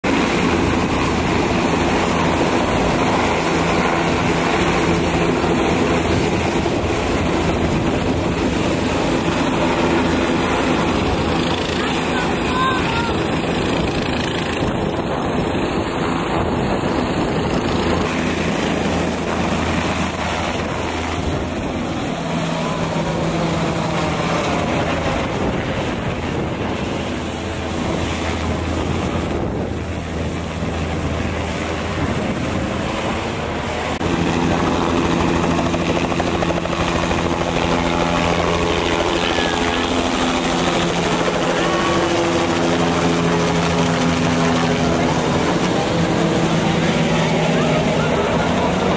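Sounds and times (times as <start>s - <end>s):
helicopter rotor and engine noise: 0.0s - 48.9s.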